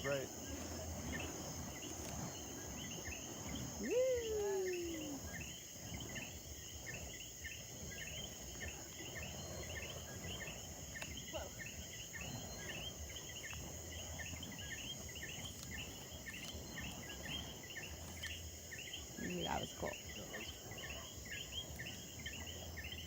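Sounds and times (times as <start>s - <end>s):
high-pitched insect drone: 0.0s - 23.0s
insects chirping: 0.0s - 23.0s.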